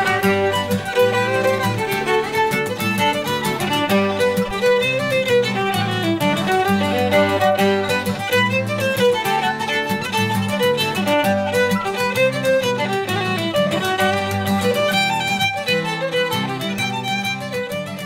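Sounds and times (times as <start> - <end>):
low held backing notes: 0.0 - 17.2
fiddle tune: 0.0 - 18.0.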